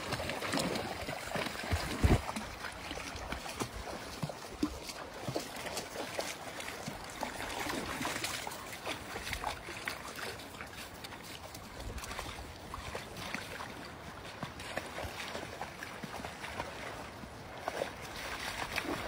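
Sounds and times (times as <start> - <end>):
dogs splashing through water: 0.0 - 19.0.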